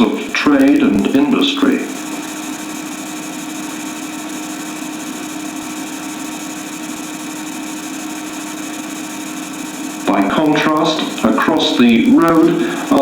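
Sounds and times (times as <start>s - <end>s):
even hiss: 0.0s - 13.0s.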